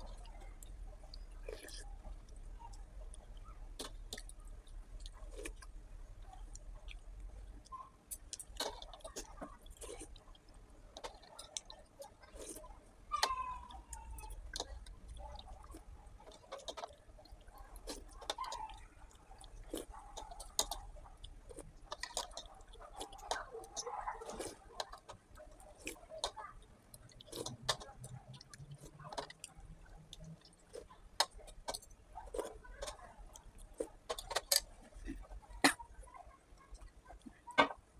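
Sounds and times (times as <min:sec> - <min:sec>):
chewing: 0:00.0 - 0:37.9.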